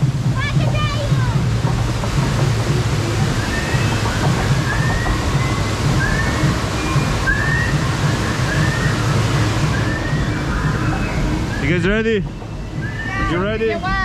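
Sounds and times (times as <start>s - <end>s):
low hum: 0.0s - 14.0s
water rushing around raft: 0.0s - 14.0s.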